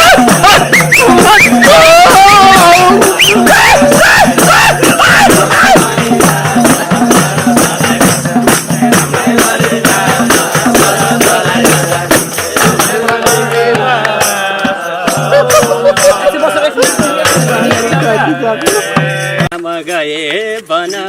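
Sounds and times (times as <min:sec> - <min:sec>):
jingling shakers: 0:00.0 - 0:13.6, 0:14.2 - 0:19.4
hand percussion beat: 0:00.0 - 0:20.0.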